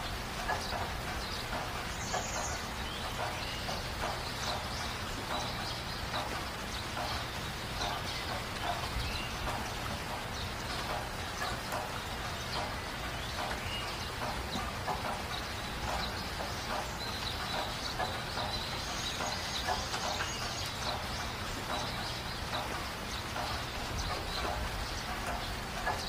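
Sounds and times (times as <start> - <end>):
bird chirps and calls: 0.4 - 26.0.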